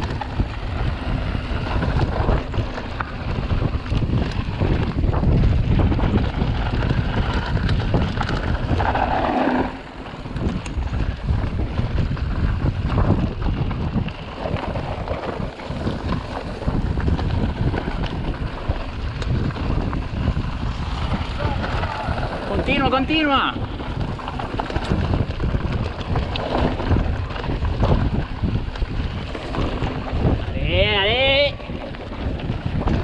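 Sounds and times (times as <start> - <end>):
bike frame rattling: 0.0 - 33.0
tyres rumbling on dirt: 0.0 - 33.0
wind buffeting microphone: 0.0 - 33.0.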